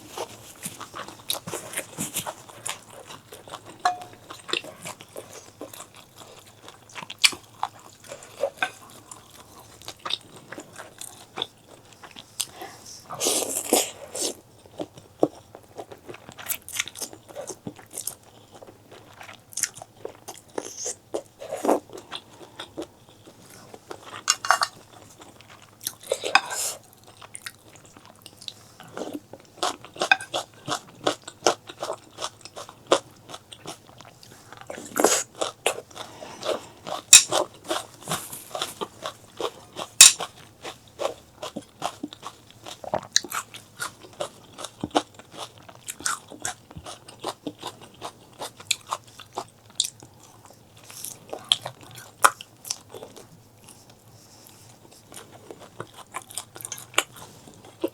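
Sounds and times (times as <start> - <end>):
chewing with crisp crunching: 0.0 - 57.9.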